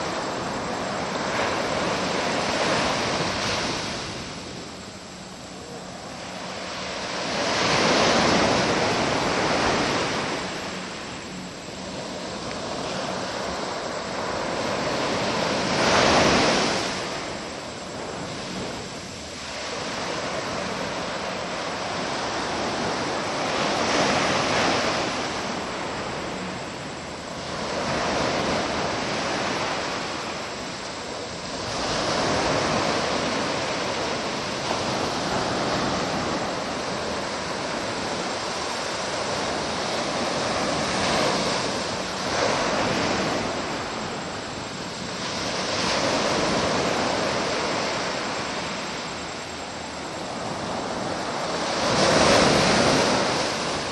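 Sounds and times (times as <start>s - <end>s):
ocean surf washing ashore: 0.0s - 53.9s.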